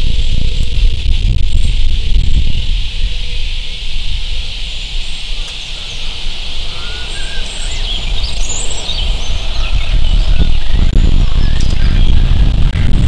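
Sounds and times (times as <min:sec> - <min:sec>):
birds chirping: 0:00.0 - 0:13.0
low rumble: 0:00.0 - 0:13.0
steady high hiss: 0:00.0 - 0:13.0.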